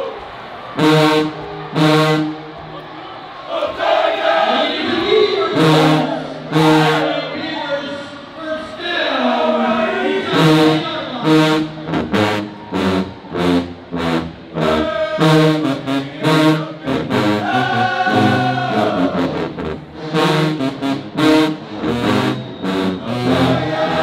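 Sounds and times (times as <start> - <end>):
brass chords: 0.6 - 2.9, 3.7 - 8.2, 9.2 - 24.0.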